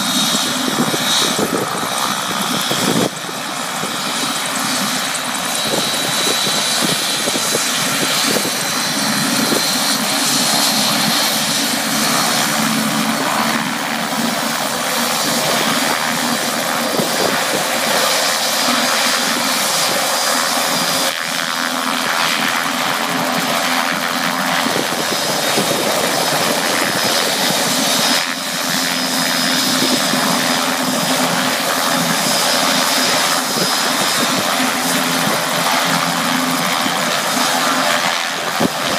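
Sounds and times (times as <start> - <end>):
helicopter turbine engine whine: 0.0 - 38.9.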